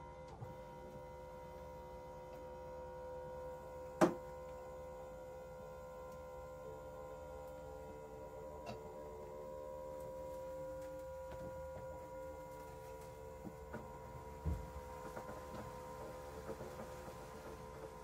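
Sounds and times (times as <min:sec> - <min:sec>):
litter box motor humming: 0:00.0 - 0:18.0.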